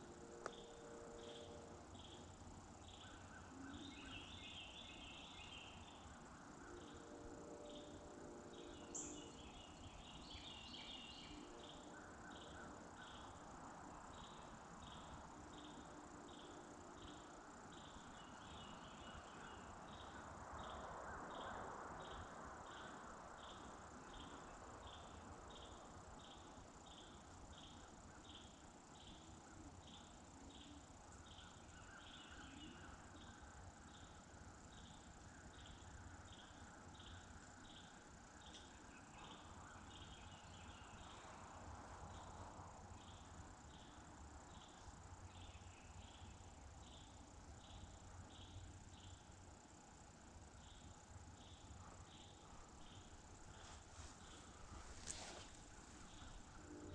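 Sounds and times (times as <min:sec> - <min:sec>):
faint insect chirping: 0:00.0 - 0:56.9
low hush of woods: 0:00.0 - 0:56.9.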